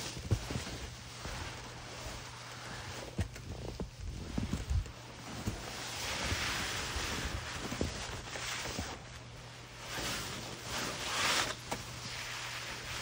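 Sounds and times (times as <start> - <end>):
snow sliding off a roof: 0.0 - 13.0.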